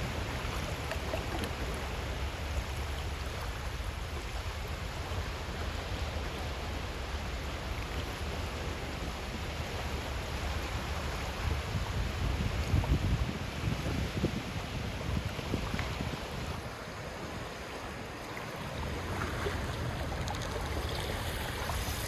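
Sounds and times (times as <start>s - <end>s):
waves washing over shell beach: 0.0s - 22.0s.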